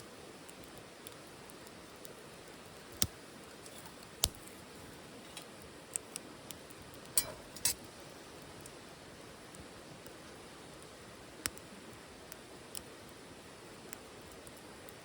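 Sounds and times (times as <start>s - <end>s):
fire crackles and pops: 0.0s - 15.0s
wood fire hissing: 0.0s - 15.0s.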